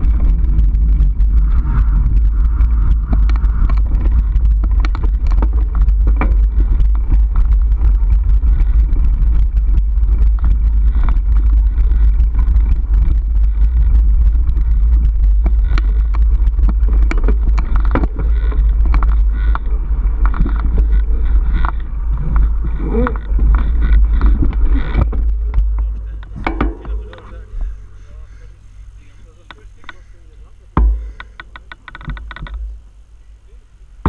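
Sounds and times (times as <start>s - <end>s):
bike clicks and rattles: 0.0s - 33.1s
wind rumble on microphone: 0.0s - 34.0s.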